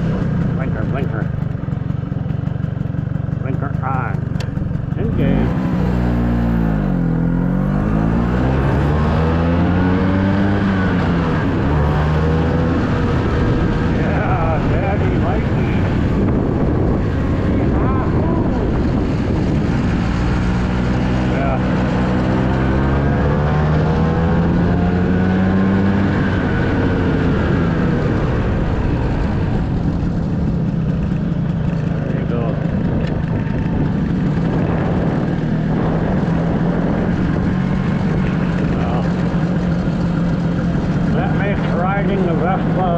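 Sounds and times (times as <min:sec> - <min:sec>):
scooter engine while riding: 0:00.0 - 0:42.9.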